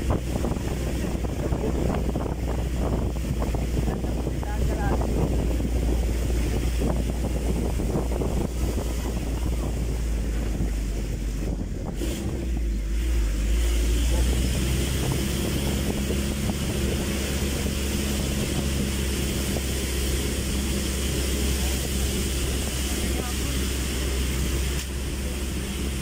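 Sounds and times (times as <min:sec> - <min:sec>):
truck engine running: 0:00.0 - 0:26.0
wind buffeting microphone: 0:00.0 - 0:26.0.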